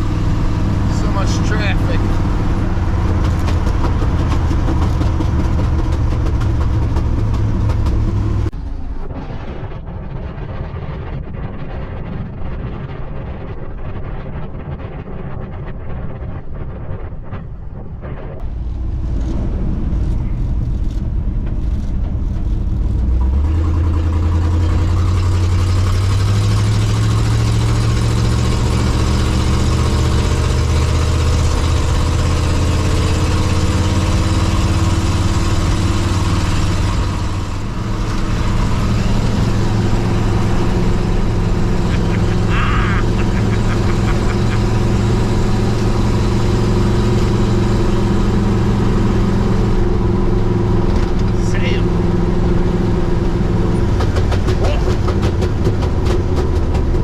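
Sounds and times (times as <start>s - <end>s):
pickup truck engine running: 0.0s - 8.7s, 18.4s - 57.0s.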